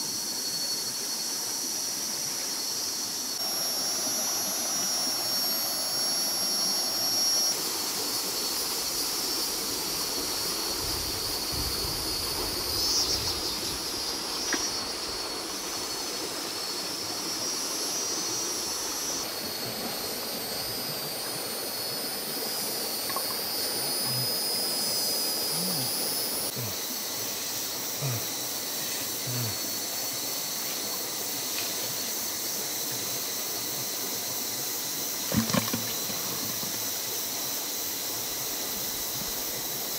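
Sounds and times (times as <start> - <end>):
insects shrill drone: 0.0 - 39.9.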